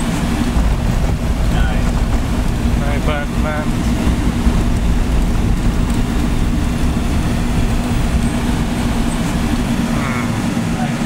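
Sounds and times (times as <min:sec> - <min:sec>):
car engine hum: 0:00.0 - 0:11.0
road rumble: 0:00.0 - 0:11.0.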